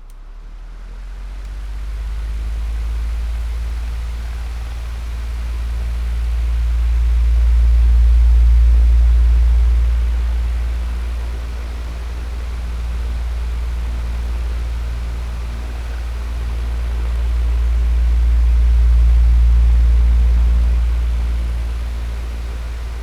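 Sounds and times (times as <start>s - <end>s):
electric fan humming and whooshing: 0.7s - 23.0s.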